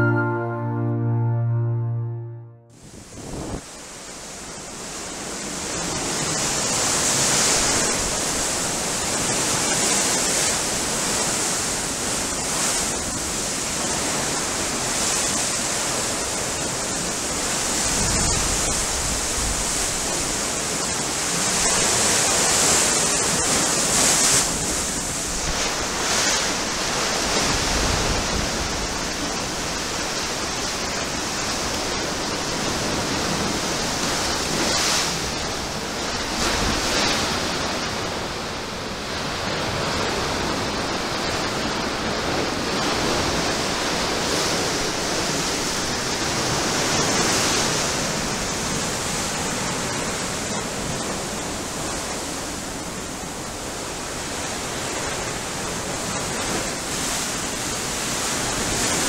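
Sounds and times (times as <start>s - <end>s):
sea waves washing around pier legs: 3.1s - 59.0s.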